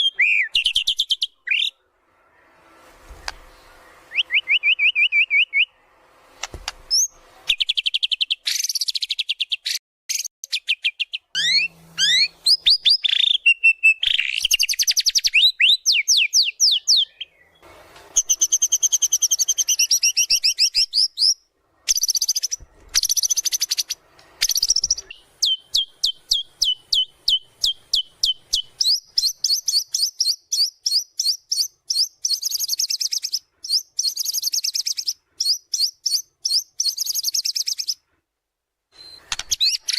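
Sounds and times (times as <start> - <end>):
songbird whistling and trilling: 0.0 - 1.8, 4.1 - 5.8, 6.9 - 17.6, 18.2 - 38.0, 39.0 - 39.9.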